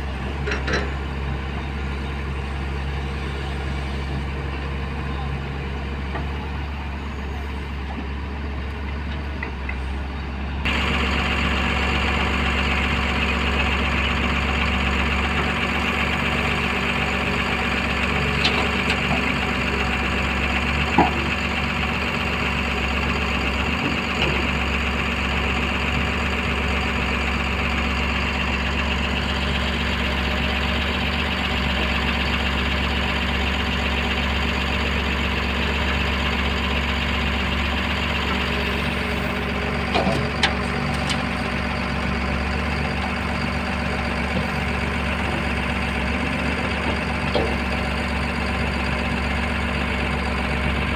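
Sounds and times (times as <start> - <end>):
excavator diesel engine working: 0.0 - 50.9.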